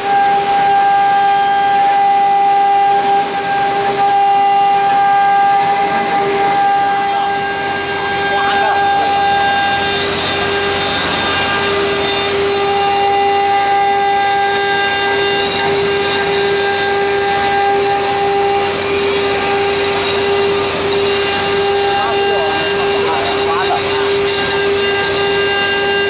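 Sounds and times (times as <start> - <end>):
bit cutting into wood: 0.0 - 26.0
spindle whining: 0.0 - 26.0.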